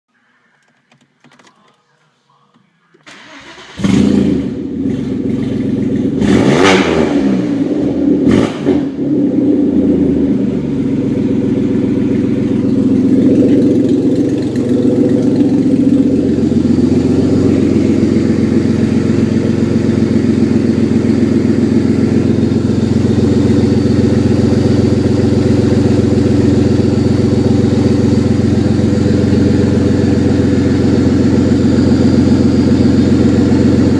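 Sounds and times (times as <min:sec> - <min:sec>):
car engine starting and idling: 0:00.2 - 0:33.9.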